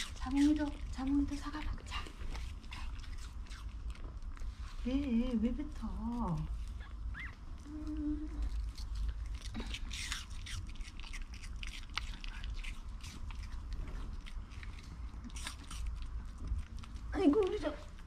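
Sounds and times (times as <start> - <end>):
dog crunching apple: 0.0 - 4.9, 8.4 - 18.0.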